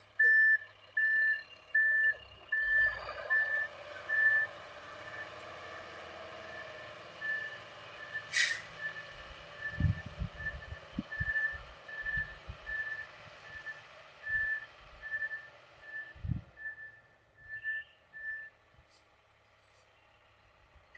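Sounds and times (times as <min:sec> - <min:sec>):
vehicle reversing alarm beeping: 0:00.2 - 0:18.6.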